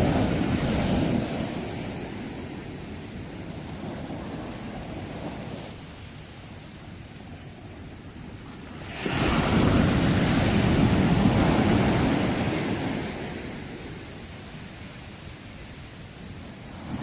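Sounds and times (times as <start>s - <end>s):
ocean wave breaking on shore: 0.0s - 17.0s.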